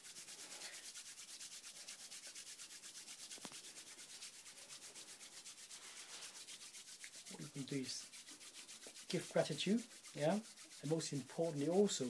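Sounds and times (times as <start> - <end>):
hands rubbing together: 0.0 - 12.0.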